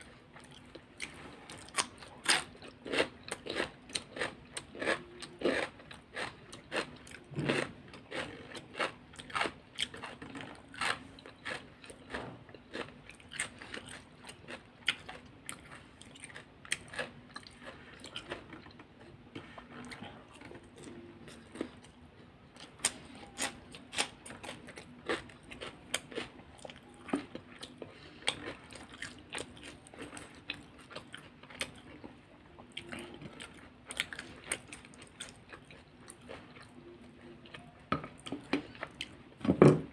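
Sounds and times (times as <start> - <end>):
crunchy food being eaten: 0.0 - 39.2.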